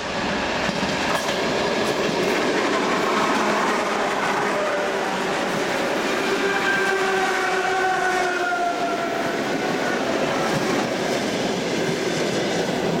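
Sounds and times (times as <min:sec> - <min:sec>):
faint train whine: 0:00.0 - 0:13.0
train wheels on rails: 0:00.0 - 0:13.0.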